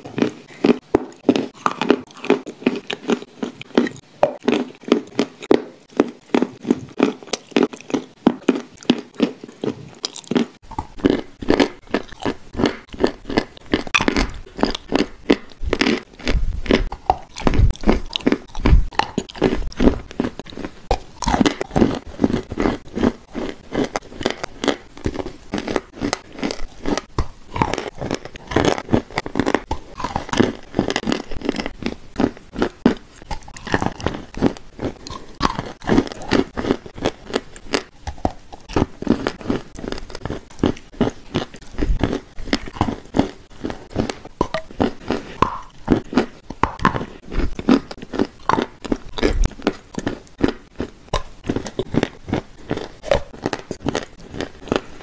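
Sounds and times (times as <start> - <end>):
person crunching cookies: 0.0 - 55.0.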